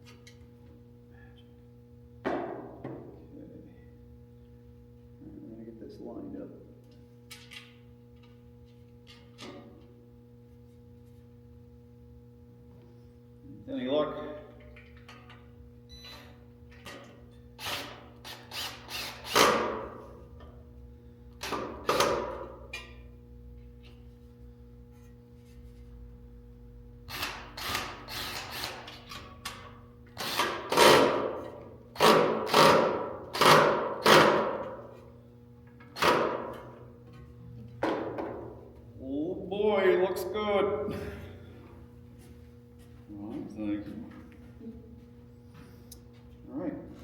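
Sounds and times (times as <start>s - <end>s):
low steady hum: 0.0s - 18.3s, 19.0s - 30.4s, 34.0s - 47.0s.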